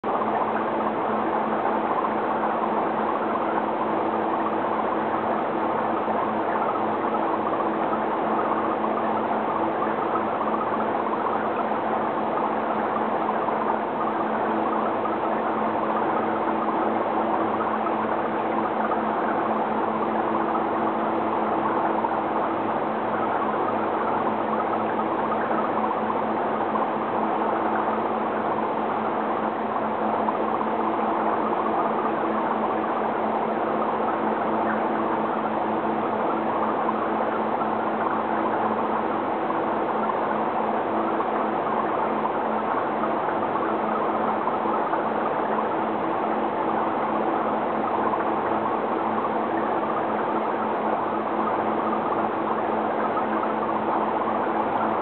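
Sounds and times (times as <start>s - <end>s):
low constant hum: 0.0s - 55.0s.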